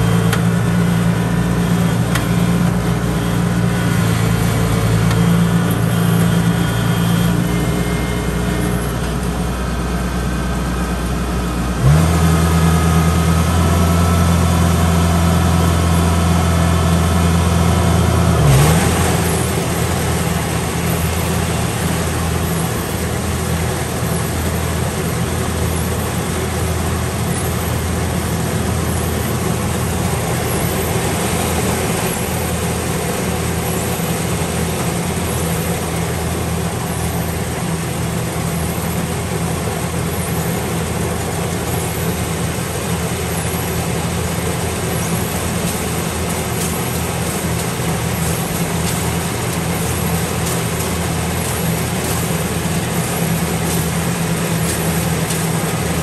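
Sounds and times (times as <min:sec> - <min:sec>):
harvester engine running: 0:00.0 - 0:56.0.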